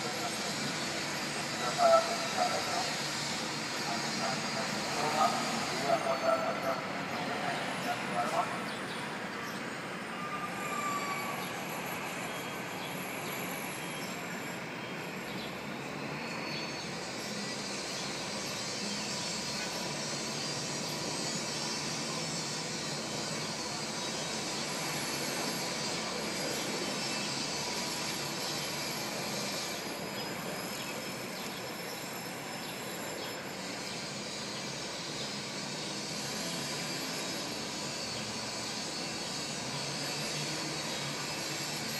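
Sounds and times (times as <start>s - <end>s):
traffic hum and hiss: 0.0s - 41.9s.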